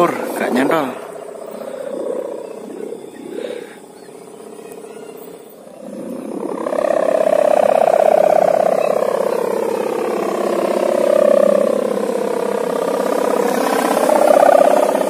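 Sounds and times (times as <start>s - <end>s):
kite hummer droning: 0.0s - 15.0s.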